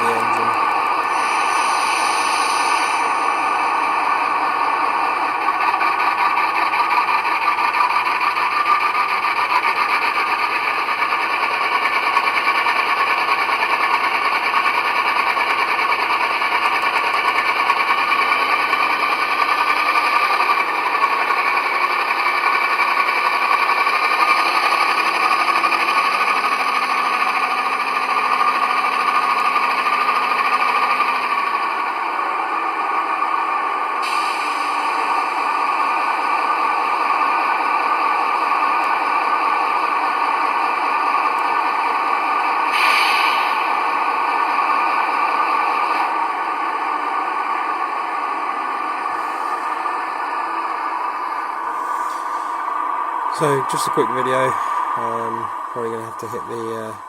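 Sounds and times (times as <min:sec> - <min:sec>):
diesel locomotive engine sound: 0:00.0 - 0:57.0.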